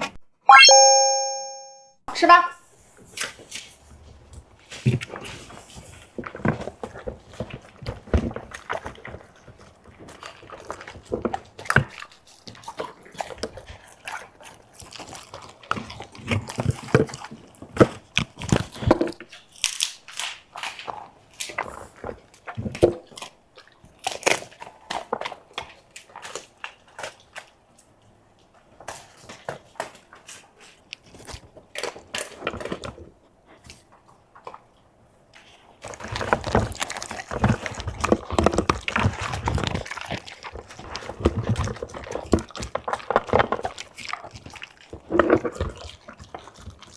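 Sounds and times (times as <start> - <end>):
dog crunching and chewing food: 3.1 - 46.9.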